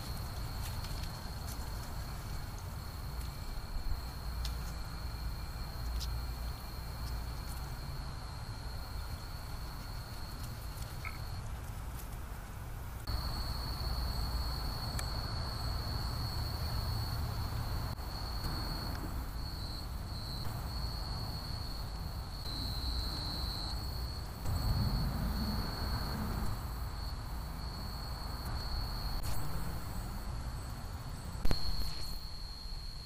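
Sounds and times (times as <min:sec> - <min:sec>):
crickets trilling: 0:00.0 - 0:11.5, 0:13.0 - 0:33.0.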